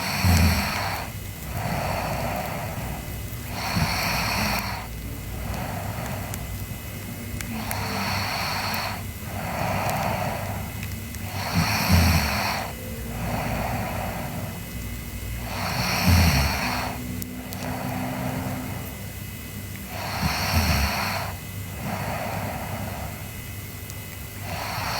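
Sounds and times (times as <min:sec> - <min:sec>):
girl snoring: 0:00.0 - 0:19.0, 0:19.9 - 0:23.4, 0:24.4 - 0:24.9
girl breathing noisily: 0:00.0 - 0:24.9.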